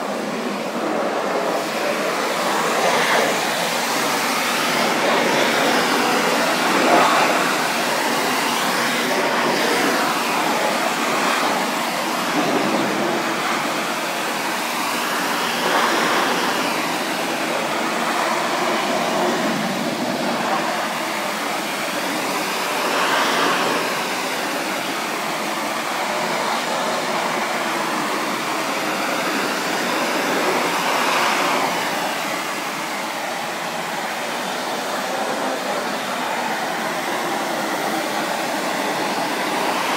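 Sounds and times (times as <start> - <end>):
pressure washer spraying wood: 0.0 - 39.9.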